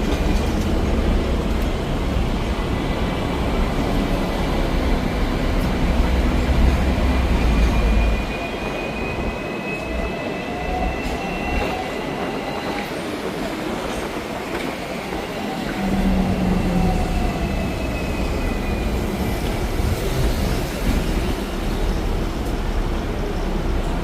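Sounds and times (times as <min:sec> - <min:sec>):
tram rumbling on rails: 0:00.0 - 0:24.0.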